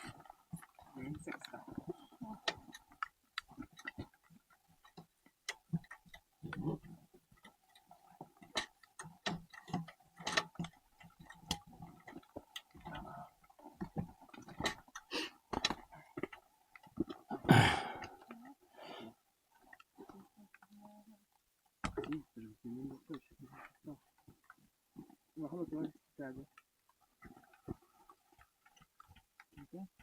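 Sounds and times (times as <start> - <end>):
irregular clicks and knocks: 0.0 - 18.6, 19.4 - 30.0.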